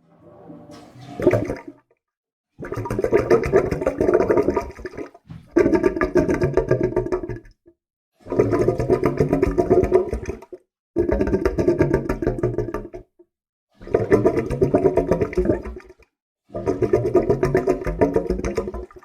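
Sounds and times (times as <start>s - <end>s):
water gurgling and bubbling: 1.0s - 1.8s, 2.6s - 7.5s, 8.2s - 12.9s, 13.8s - 19.0s.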